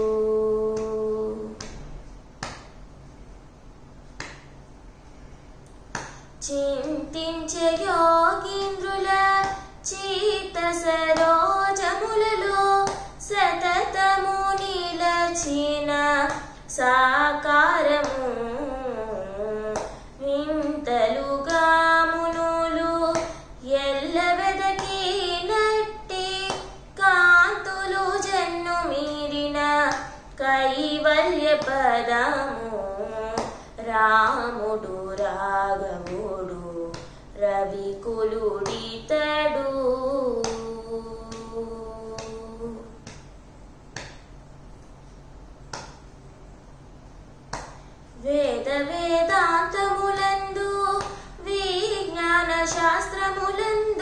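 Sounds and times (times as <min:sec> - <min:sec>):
woman singing: 0:00.0 - 0:01.8, 0:06.4 - 0:43.2, 0:48.2 - 0:54.0
hand slaps keeping beat: 0:00.6 - 0:02.9, 0:04.0 - 0:04.6, 0:05.8 - 0:18.4, 0:19.6 - 0:44.4, 0:45.6 - 0:46.2, 0:47.4 - 0:47.9, 0:49.2 - 0:54.0.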